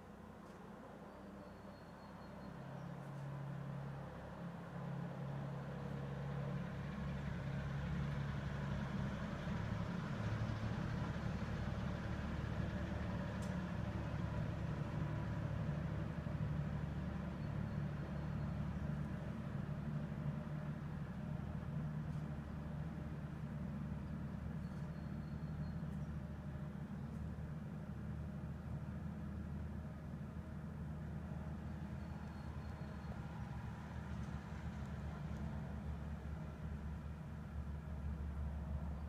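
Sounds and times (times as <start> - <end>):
low engine-like hum: 0.0 - 39.0.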